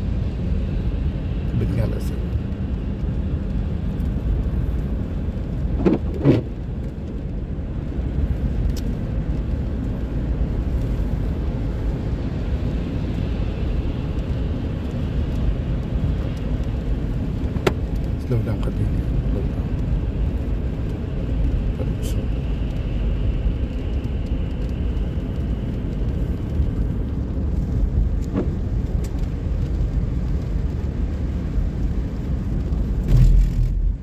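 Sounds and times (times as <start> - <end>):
car tyre noise on wet road: 0.0 - 34.0.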